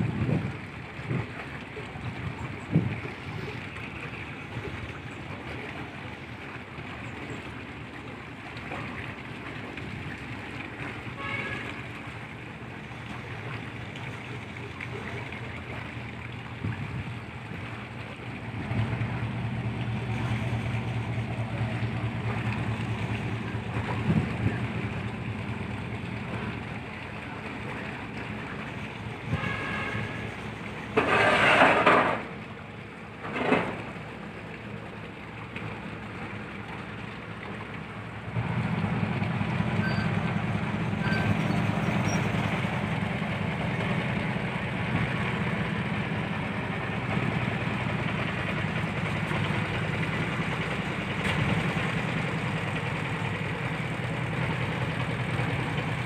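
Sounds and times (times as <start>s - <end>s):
barge engine humming: 0.0s - 56.0s.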